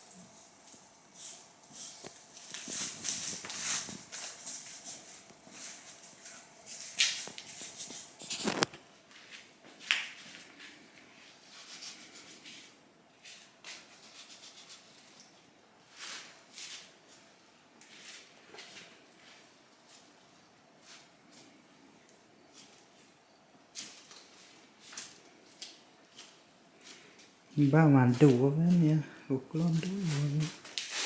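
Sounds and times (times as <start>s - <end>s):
rustling and scuffing: 0.0s - 14.0s, 15.8s - 21.9s, 22.5s - 31.0s.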